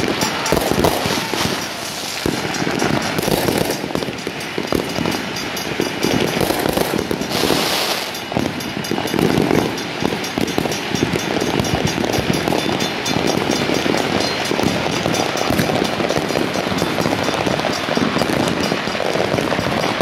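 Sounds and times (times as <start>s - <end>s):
firework hiss: 0.0s - 20.0s
fireworks bangs and crackling: 0.0s - 20.0s.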